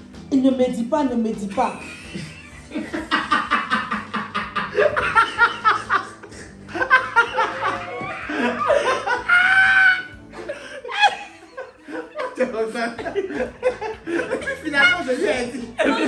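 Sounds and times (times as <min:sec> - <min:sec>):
people laughing: 0:01.7 - 0:16.0.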